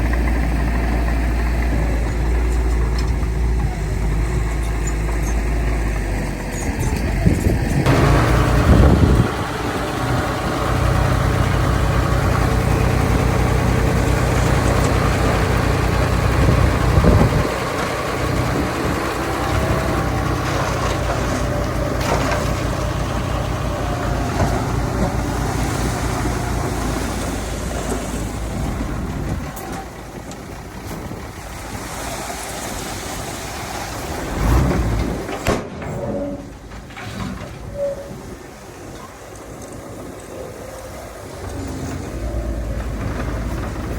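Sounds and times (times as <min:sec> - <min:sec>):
diesel earthmoving machinery running: 0:00.0 - 0:43.9.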